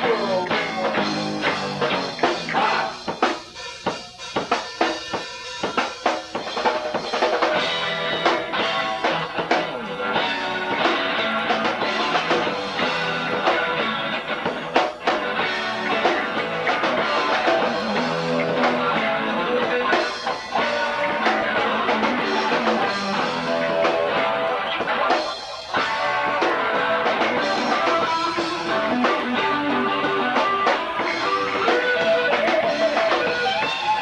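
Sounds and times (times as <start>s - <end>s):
bass guitar: 0.0s - 34.0s
drum kit: 0.0s - 34.0s
electric guitar: 0.0s - 34.0s.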